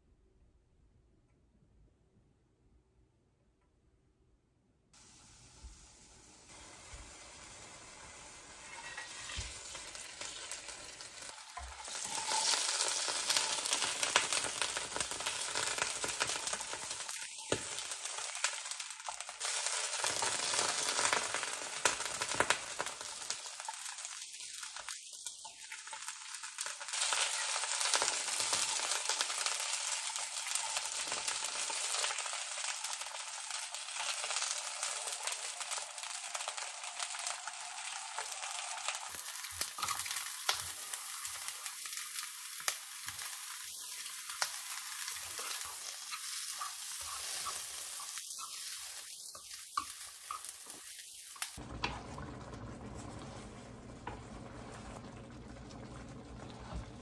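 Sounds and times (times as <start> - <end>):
eggs sizzling in frying oil: 5.0 - 57.0.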